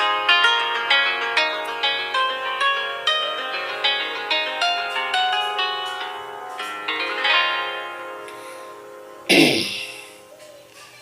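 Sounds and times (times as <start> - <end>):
phone ringtone melody: 0.0 - 10.4.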